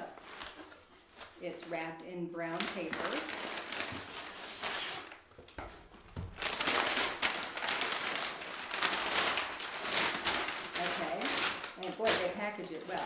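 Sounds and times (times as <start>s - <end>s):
packing paper rustling and crinkling: 0.0s - 13.0s.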